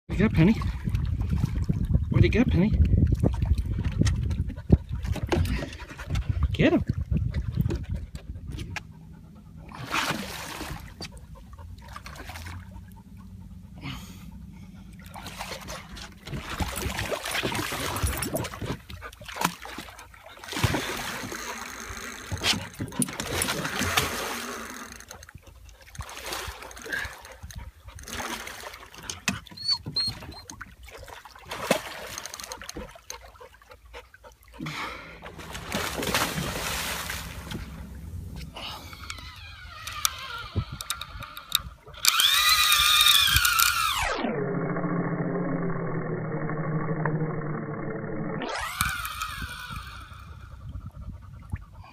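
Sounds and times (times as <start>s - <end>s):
water splashing around boat: 0.1s - 44.1s.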